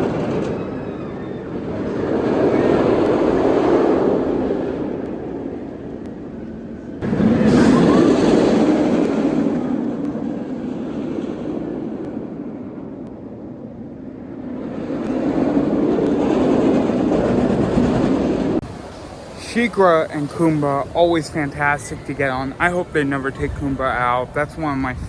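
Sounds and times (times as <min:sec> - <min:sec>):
roller coaster rumbling on track: 0:00.0 - 0:25.0.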